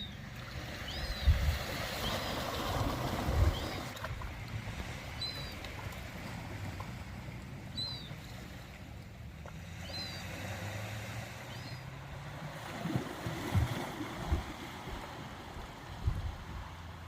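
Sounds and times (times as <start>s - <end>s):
ocean water washing: 0.0s - 17.0s.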